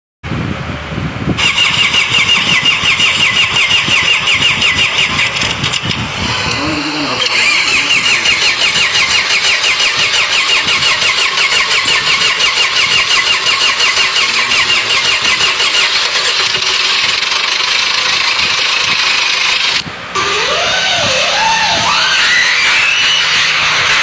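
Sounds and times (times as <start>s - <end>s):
engine running steadily: 0.2s - 24.0s
engine cranking on starter: 1.3s - 24.0s.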